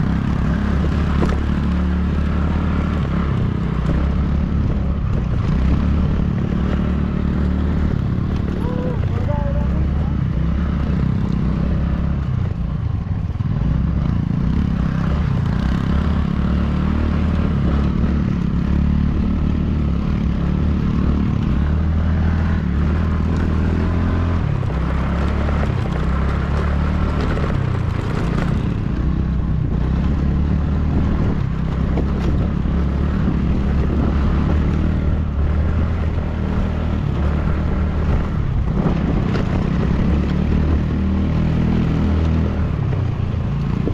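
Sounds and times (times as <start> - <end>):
wind noise: 0.0 - 9.2, 9.8 - 43.9
road noise: 0.0 - 43.9
vehicle engine running steadily: 0.0 - 43.9.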